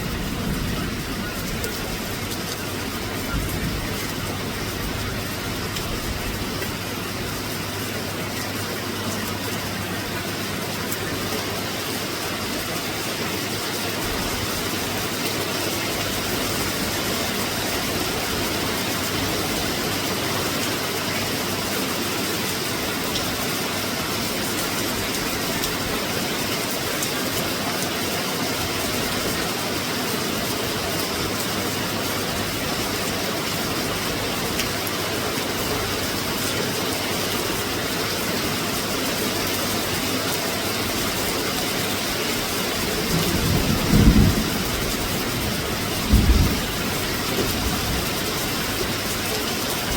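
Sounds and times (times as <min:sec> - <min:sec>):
rain falling on the sea: 0:00.0 - 0:49.9.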